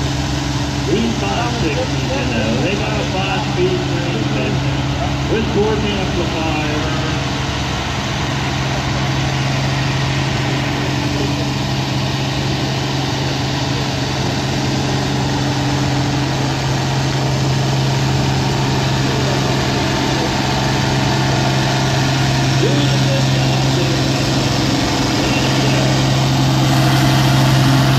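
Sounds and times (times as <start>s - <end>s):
tractor engine idling: 0.0s - 27.9s.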